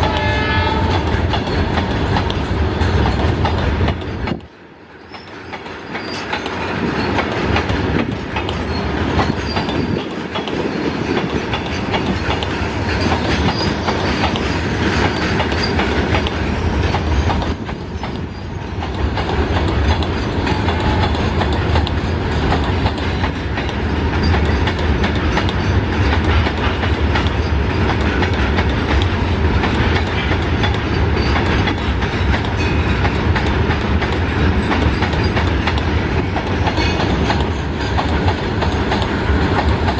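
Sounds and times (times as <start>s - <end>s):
train low rumble: 0.0s - 39.9s
train wheels clicking on rails: 0.0s - 39.9s.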